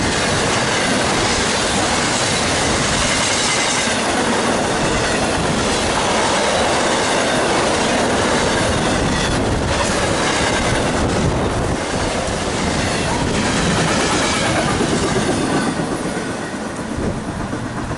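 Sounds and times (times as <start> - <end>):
freight train rolling past: 0.0 - 17.9.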